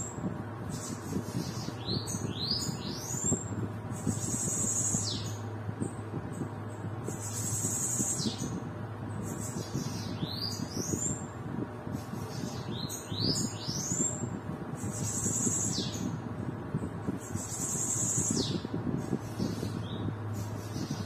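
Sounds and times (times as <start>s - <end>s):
bird singing buzzy phrases: 0.0s - 21.0s.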